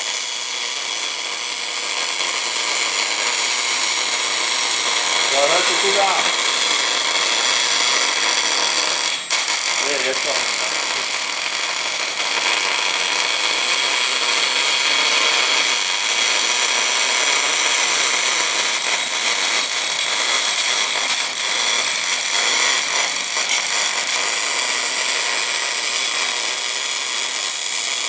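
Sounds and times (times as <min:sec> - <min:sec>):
welding arc sizzling and crackling: 0:00.0 - 0:28.0.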